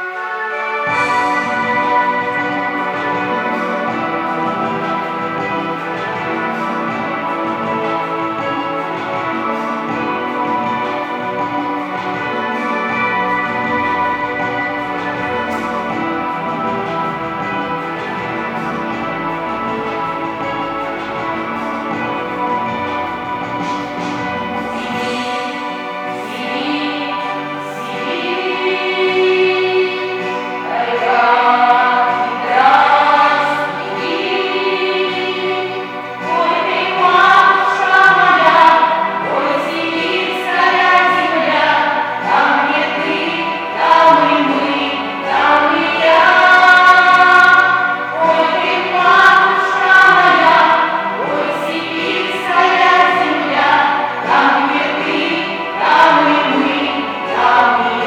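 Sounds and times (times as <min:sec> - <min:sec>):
instrumental accompaniment: 0:00.0 - 0:58.0
vocal ensemble singing: 0:00.0 - 0:58.0.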